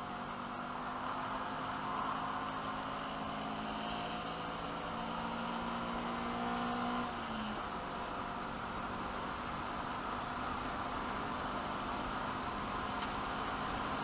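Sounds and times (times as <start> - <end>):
race car engine at high revs: 0.0 - 14.0
road and wind noise: 0.0 - 14.0.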